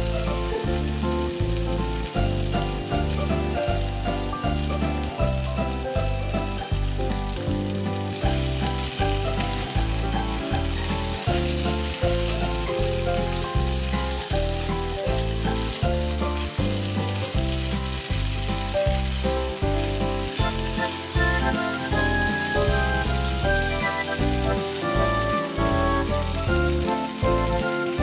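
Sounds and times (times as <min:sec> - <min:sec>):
background music with beat: 0:00.0 - 0:28.0
food sizzling in a pan: 0:00.0 - 0:28.0
food stirred in pan: 0:00.0 - 0:28.0.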